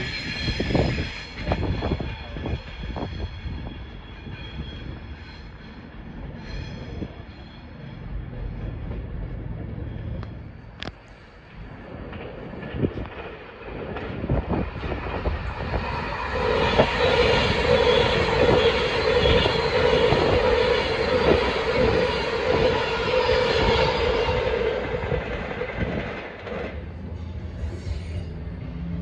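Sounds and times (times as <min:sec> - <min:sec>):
electric train whine: 0:00.0 - 0:29.0.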